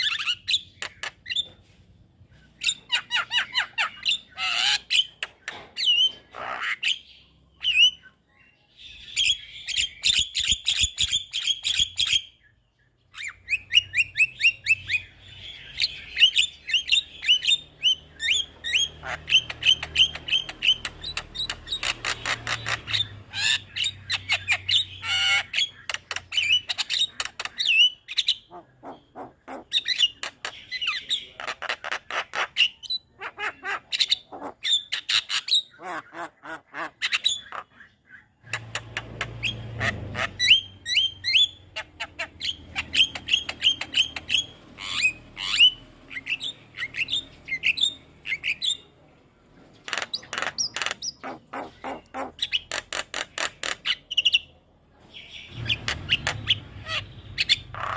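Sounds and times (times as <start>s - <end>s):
myna bird chattering song: 0.0s - 57.9s.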